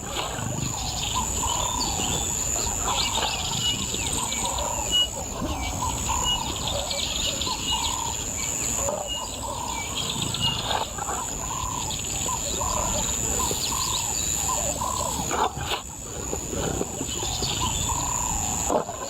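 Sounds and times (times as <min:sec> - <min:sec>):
steady high-pitched hum: 0:00.0 - 0:19.0
wild birds calling: 0:00.0 - 0:19.0.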